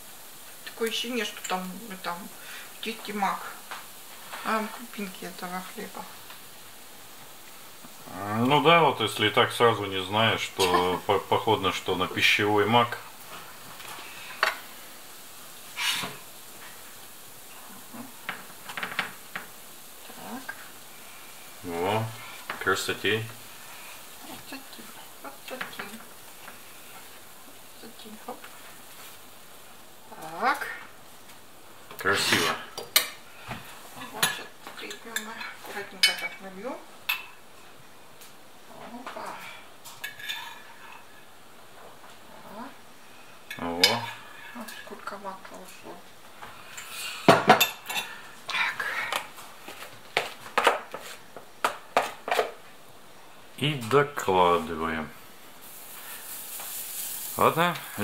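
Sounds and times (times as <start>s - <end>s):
pancakes sizzling in oil: 0.0s - 58.0s.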